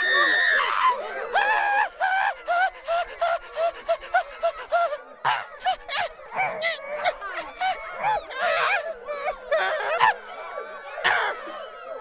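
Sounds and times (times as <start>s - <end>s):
high-pitched cartoon voices yelping: 0.0s - 12.0s.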